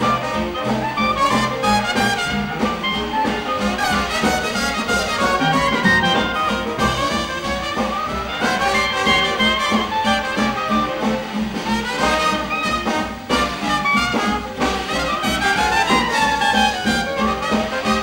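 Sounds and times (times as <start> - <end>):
jazz band playing: 0.0 - 18.0.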